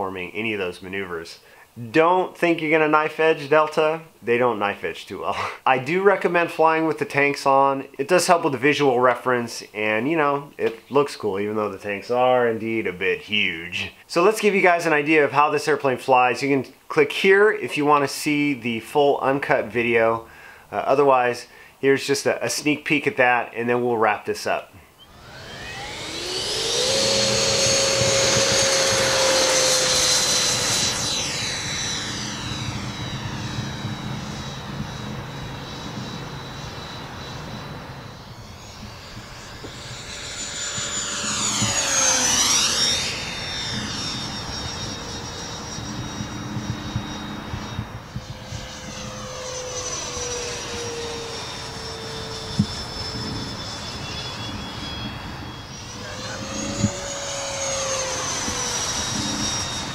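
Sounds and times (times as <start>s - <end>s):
model jet fan whining: 0.0s - 59.9s.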